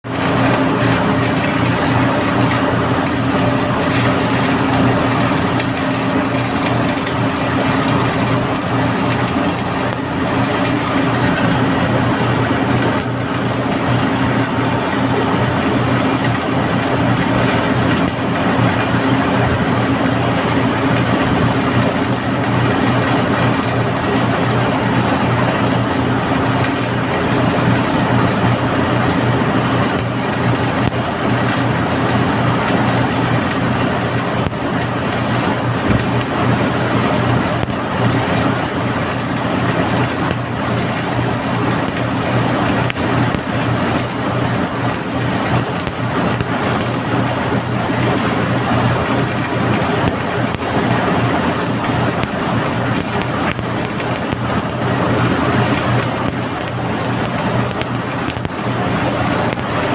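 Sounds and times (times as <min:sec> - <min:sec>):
machine humming and whirring: 0:00.0 - 0:59.9.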